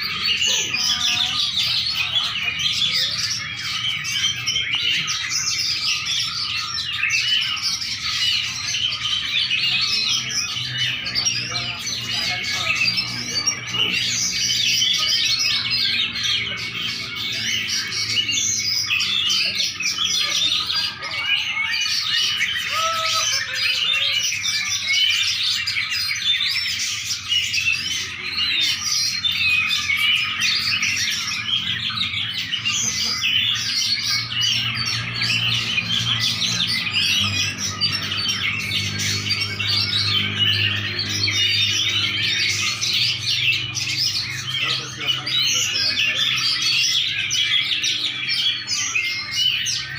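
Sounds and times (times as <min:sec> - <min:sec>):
songbird twittering: 0:00.0 - 0:49.9.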